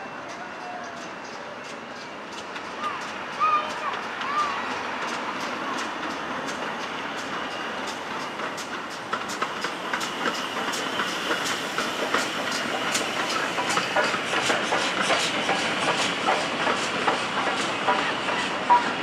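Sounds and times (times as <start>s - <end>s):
train wheels clicking over rail joints: 0.1s - 19.0s
steam hissing: 2.7s - 19.0s.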